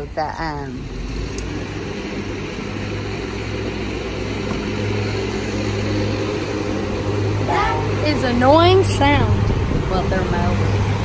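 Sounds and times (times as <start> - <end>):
lawn mower engine droning: 0.0 - 11.0.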